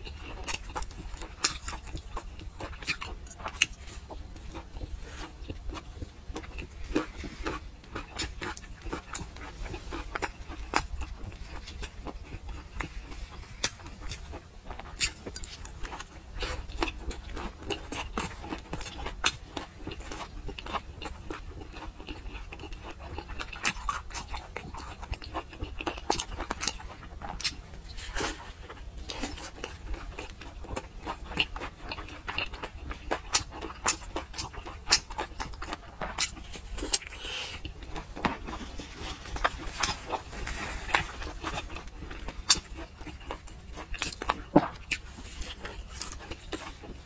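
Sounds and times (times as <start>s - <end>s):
wet chewing and lip smacking: 0.0s - 47.0s.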